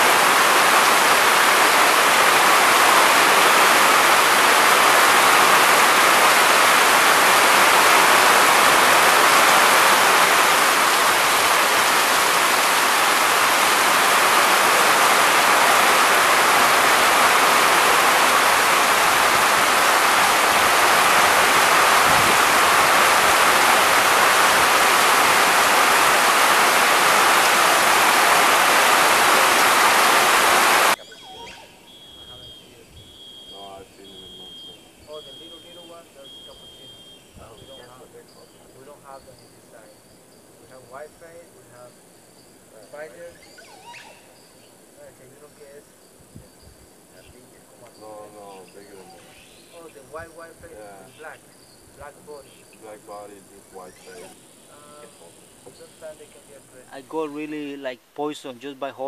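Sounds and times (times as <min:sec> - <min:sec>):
loud rushing hiss: 0:00.0 - 0:39.8, 0:44.8 - 0:57.6.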